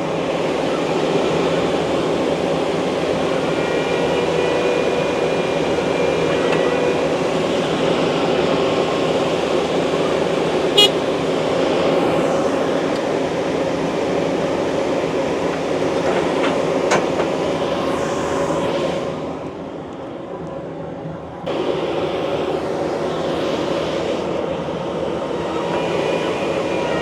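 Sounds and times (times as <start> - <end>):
heavy equipment engine running: 0.0 - 27.0.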